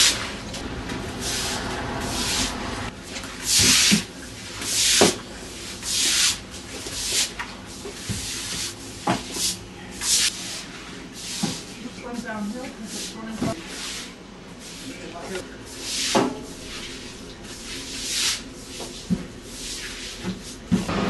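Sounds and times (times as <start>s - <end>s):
broom sweeping water: 0.0s - 20.9s.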